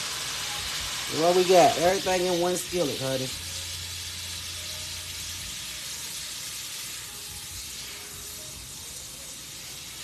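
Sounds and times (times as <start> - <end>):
shrimp sizzling in a skillet: 0.0 - 10.0.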